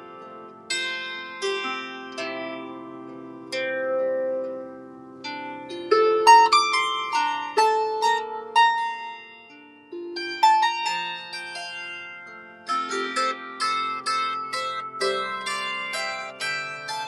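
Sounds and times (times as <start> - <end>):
harp plucked notes: 0.0 - 17.0.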